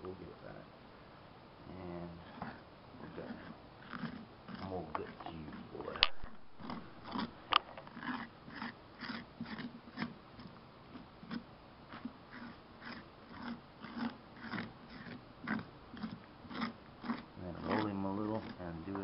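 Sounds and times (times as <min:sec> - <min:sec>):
hand scraping pumpkin pulp: 0:01.7 - 0:19.0.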